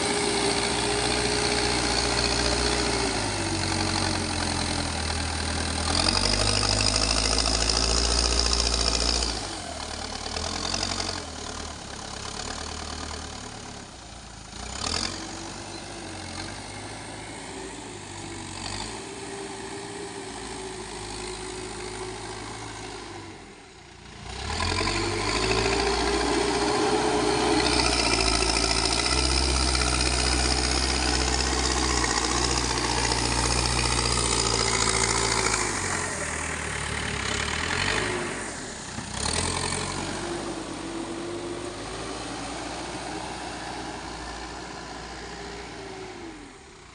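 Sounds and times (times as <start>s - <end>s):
diesel engine revving under load: 0.0s - 46.9s.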